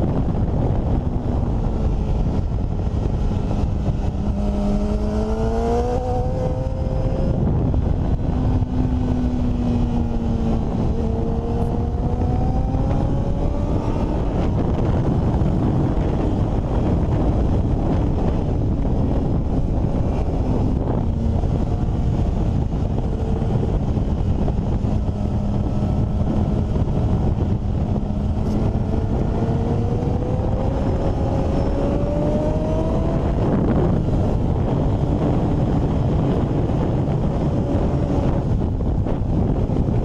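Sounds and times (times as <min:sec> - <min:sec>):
motorcycle engine accelerating: 0:00.0 - 0:40.0
wind buffeting microphone: 0:00.0 - 0:40.0.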